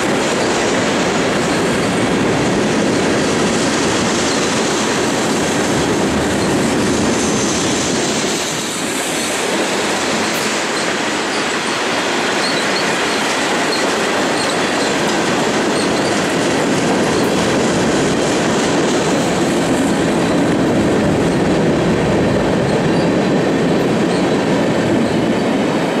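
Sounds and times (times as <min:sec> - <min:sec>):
steel wheels rushing on rail: 0:00.0 - 0:26.0.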